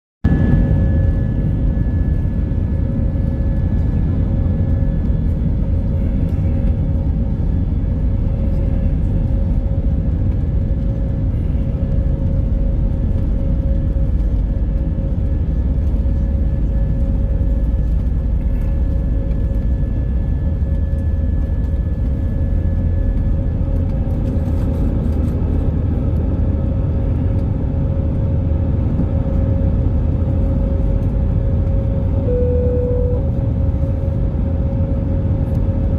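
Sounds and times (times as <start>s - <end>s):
constant whine: 0.3s - 35.9s
jet engine cabin rumble: 0.3s - 35.9s.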